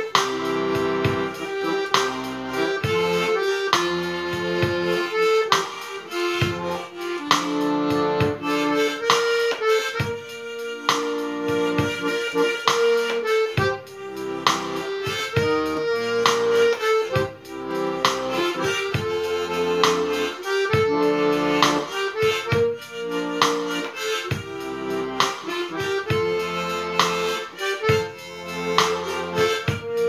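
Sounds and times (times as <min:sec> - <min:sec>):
accordion bass and chords: 0:00.0 - 0:30.0
harmonica melody: 0:00.0 - 0:30.0.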